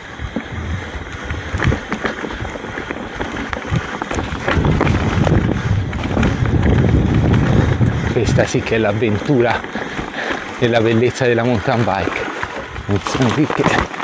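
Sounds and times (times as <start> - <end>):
bike rattling: 0.0 - 14.0
tyres crunching over stones: 0.2 - 14.0.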